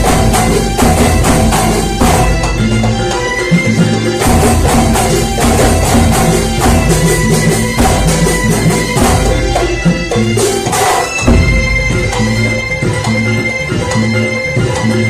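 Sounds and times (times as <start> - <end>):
frame drums and jingles: 0.0 - 15.0.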